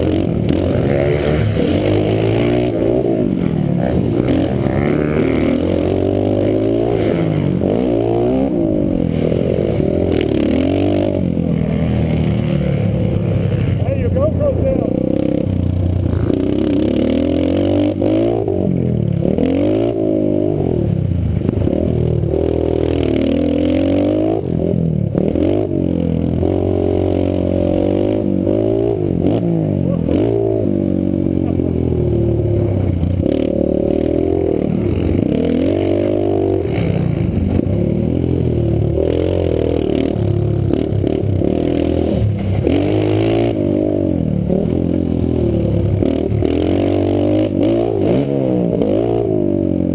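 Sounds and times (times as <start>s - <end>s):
small motorbike engine revving: 0.0s - 49.9s.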